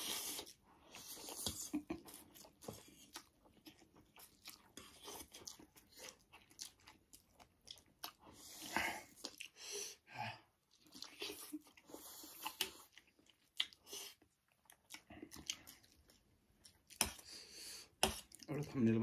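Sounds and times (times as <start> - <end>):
people chewing noodles: 0.0 - 19.0.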